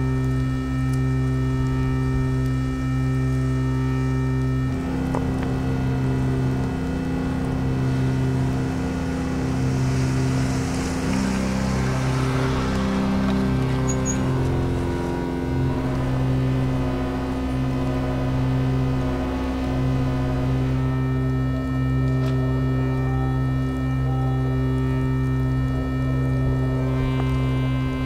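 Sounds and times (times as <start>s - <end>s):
low droning hum: 0.0s - 28.0s
pulsing low note: 0.0s - 28.0s.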